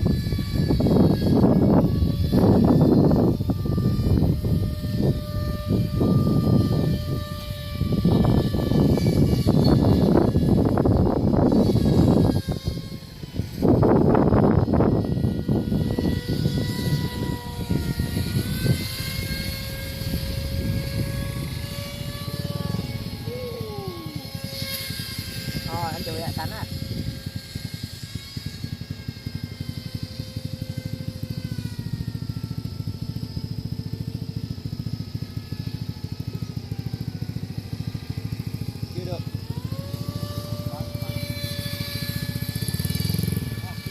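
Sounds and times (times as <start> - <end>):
low fast throbbing: 0.0 - 43.9
model plane motor whine: 0.0 - 43.9.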